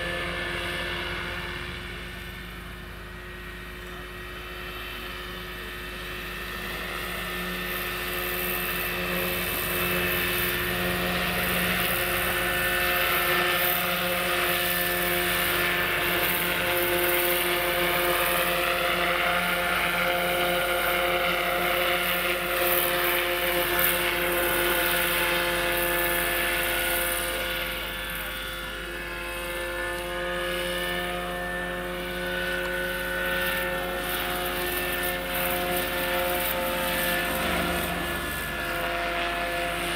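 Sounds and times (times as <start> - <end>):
model helicopter motor whine: 0.0 - 39.9.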